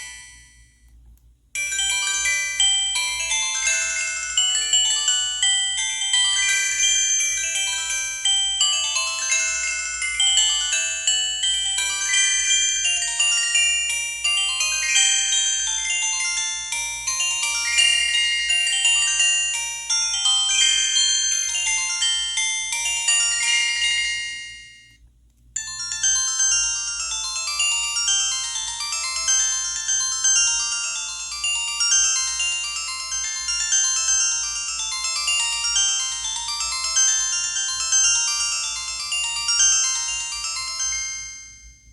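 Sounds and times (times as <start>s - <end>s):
polyphonic ringtone melody: 0.0s - 0.6s, 1.6s - 25.0s, 25.6s - 41.9s.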